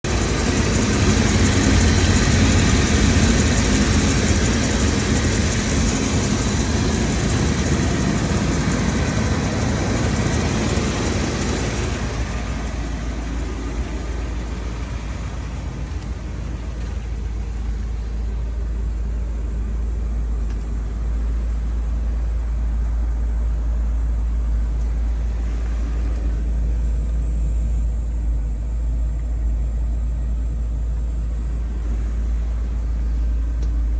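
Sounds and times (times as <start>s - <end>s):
van engine idling: 0.0s - 33.9s.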